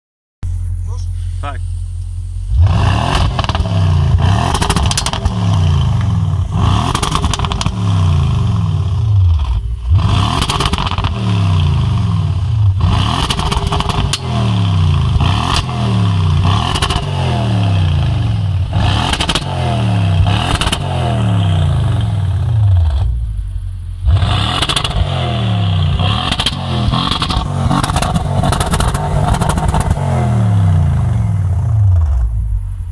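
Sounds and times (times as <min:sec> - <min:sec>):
car engine revving: 0:00.5 - 0:32.9
exhaust cracks: 0:00.5 - 0:32.9.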